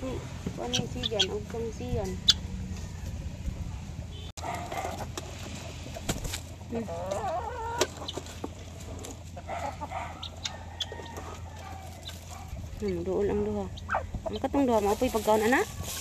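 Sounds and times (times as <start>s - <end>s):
hens clucking: 0.5s - 3.7s, 4.4s - 16.0s.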